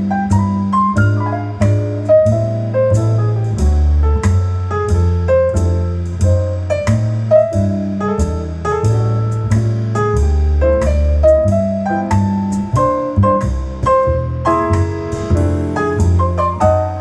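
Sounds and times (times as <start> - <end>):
deep bass line: 0.0 - 17.0
jazzy piano music: 0.0 - 17.0.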